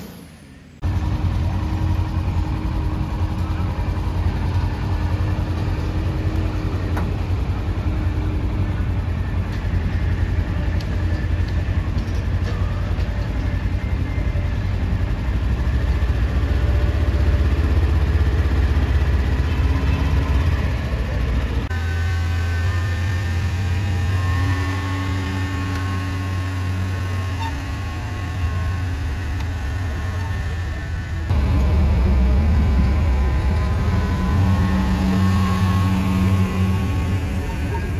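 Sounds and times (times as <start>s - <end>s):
pulling truck engine rumbling: 0.0s - 37.9s
tractor engine rumbling: 0.0s - 37.9s.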